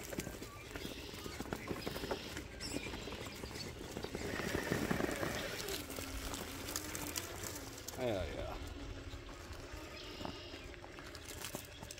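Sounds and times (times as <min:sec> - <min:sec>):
stones clicking and crunching: 0:00.0 - 0:08.0, 0:09.3 - 0:11.9
toy car tyres scrabbling on rock: 0:00.0 - 0:11.9.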